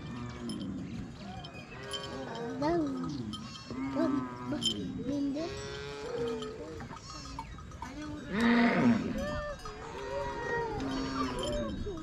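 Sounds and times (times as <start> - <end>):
cattle lowing: 0.0 - 12.0.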